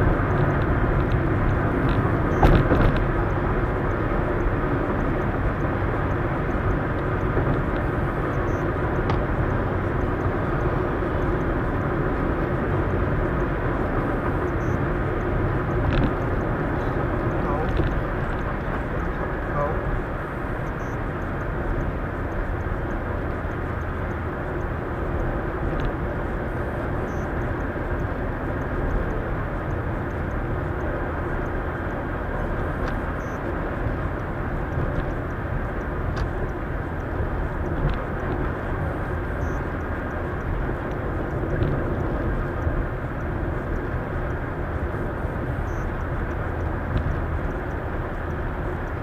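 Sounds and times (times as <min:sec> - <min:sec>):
road and tyre noise in car: 0:00.0 - 0:49.0.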